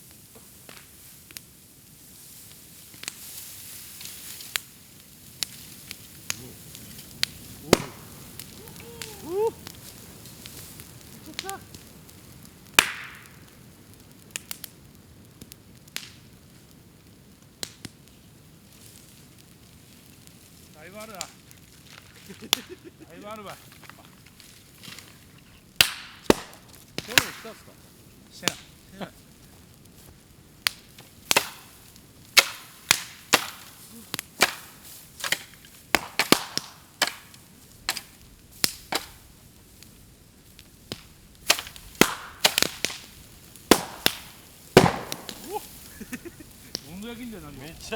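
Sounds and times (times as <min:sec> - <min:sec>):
bamboo fire crackling and popping: 0:00.0 - 0:47.9.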